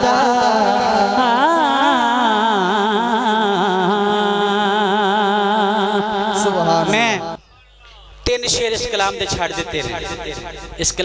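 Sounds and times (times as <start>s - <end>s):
man singing through sound system: 0.0s - 11.0s.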